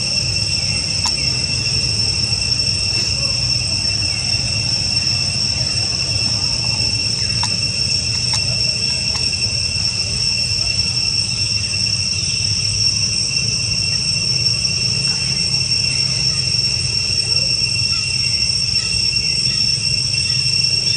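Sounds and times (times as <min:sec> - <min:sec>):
insect chorus buzzing: 0:00.0 - 0:20.9.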